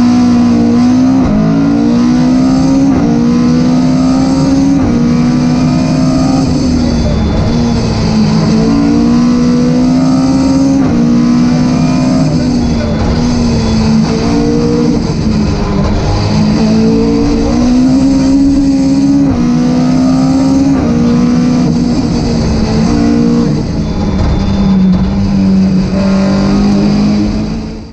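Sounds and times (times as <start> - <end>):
rally car engine revving: 0.0 - 27.9.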